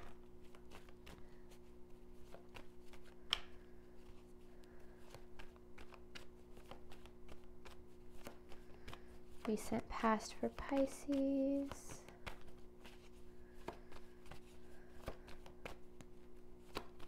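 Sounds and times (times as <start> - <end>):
cards being shuffled: 0.0 - 17.0
faint steady hum: 0.0 - 17.0.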